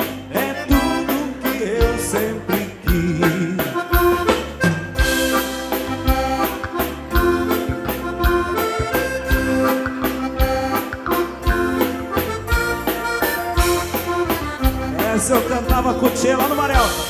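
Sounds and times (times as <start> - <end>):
accordion waltz melody: 0.0 - 17.0.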